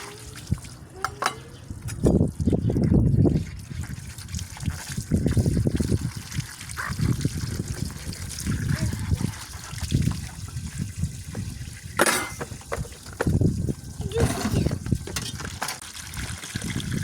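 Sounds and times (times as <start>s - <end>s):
water splashing while rinsing dishes: 0.0s - 17.0s.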